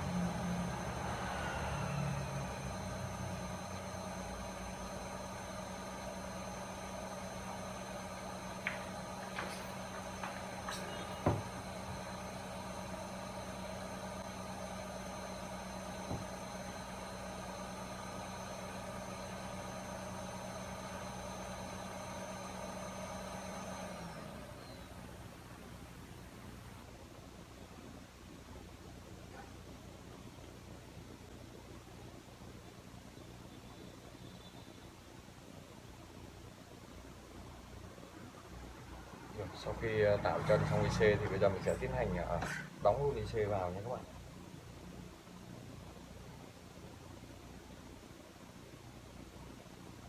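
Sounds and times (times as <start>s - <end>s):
hot air station fan whining: 0.0s - 50.0s.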